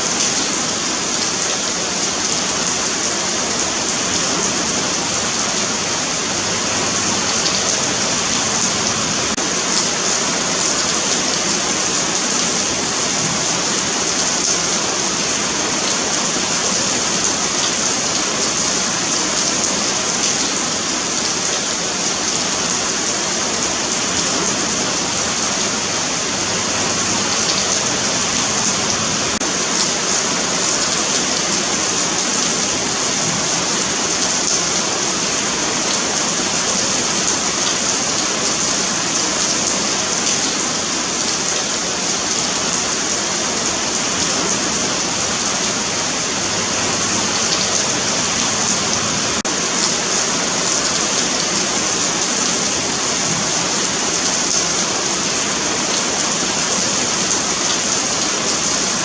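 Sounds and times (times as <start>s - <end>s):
rain falling on pavement: 0.0s - 59.0s.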